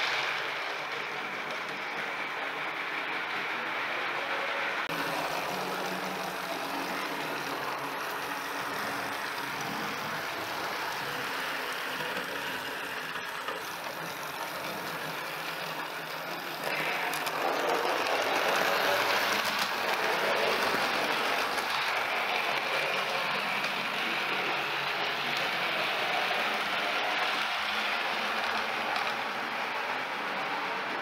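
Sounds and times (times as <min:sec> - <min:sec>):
model train running: 0:00.0 - 0:31.0.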